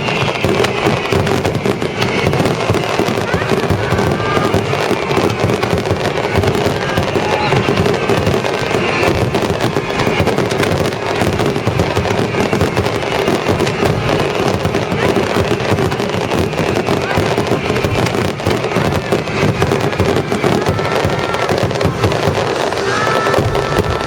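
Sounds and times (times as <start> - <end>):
firework shells bursting and crackling: 0.0 - 24.0.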